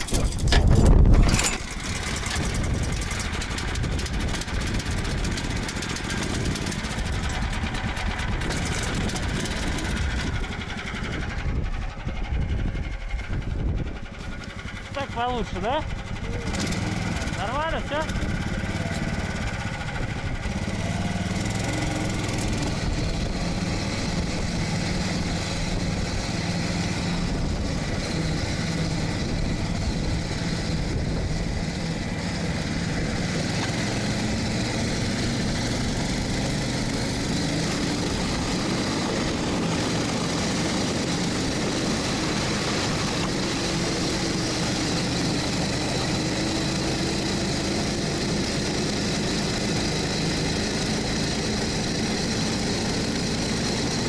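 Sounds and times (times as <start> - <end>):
ski-tow engine running under load: 0.0 - 54.0.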